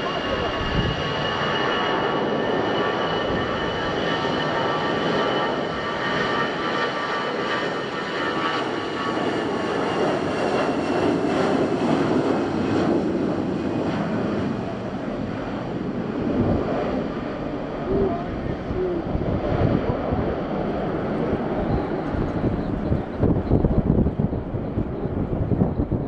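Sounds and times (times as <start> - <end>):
jet engines roaring at takeoff: 0.0 - 26.0.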